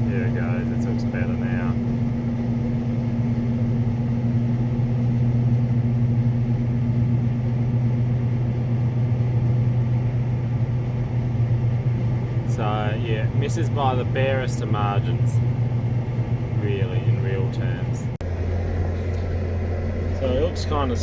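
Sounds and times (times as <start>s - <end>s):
combine harvester droning: 0.0s - 21.0s.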